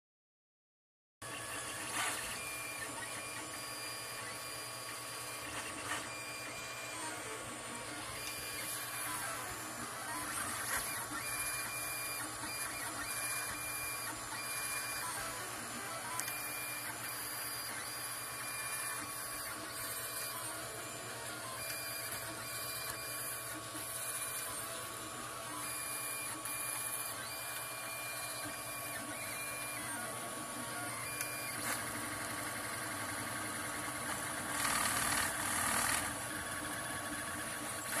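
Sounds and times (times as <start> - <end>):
stepper motors whining: 1.3 - 38.0.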